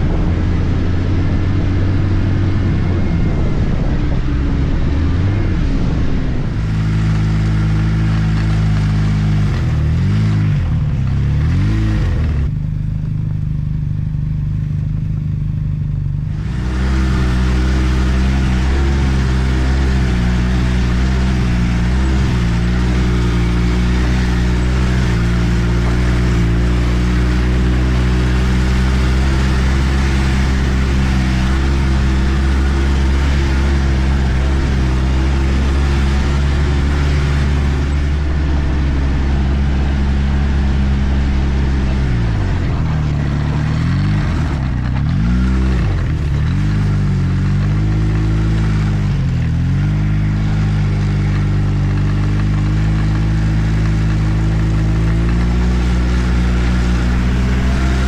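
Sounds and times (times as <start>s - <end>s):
snowmobile engine revving: 0.0s - 12.8s, 16.2s - 58.0s.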